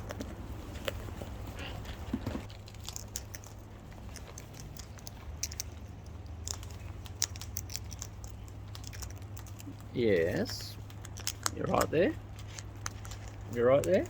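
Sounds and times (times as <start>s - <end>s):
beaks pecking and chewing food: 0.0s - 14.0s
low steady hum: 0.0s - 14.0s.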